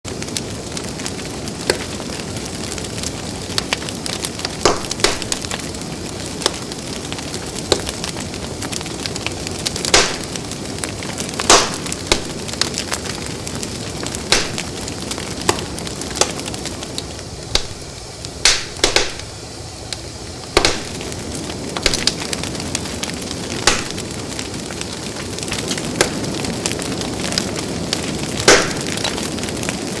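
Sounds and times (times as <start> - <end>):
fire crackling and popping: 0.0 - 30.0
fire hissing: 0.1 - 30.0
wood snapping in fire: 0.1 - 30.0.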